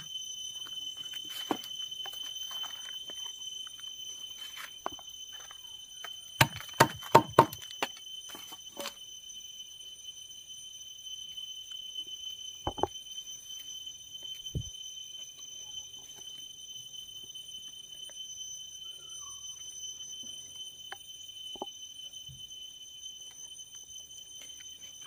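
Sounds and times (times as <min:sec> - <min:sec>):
steady high-pitched whine: 0:00.0 - 0:25.0.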